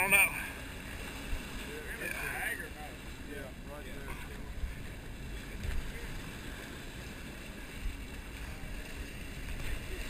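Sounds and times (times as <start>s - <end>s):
water rushing along hull: 0.0s - 10.0s.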